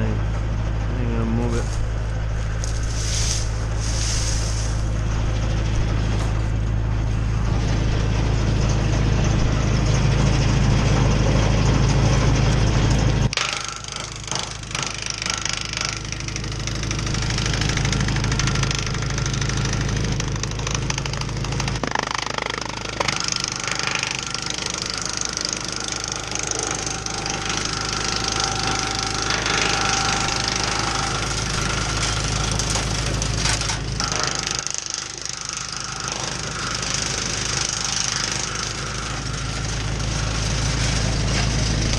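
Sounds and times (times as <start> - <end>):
tractor engine running: 0.0 - 41.9
wood chipper humming: 0.0 - 41.9.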